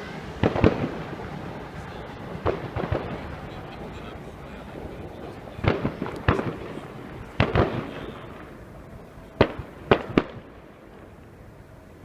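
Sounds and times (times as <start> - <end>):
fireworks bangs: 0.0 - 11.2.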